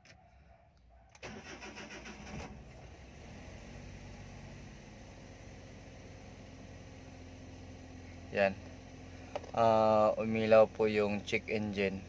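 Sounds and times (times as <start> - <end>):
van engine idling: 1.2 - 12.0.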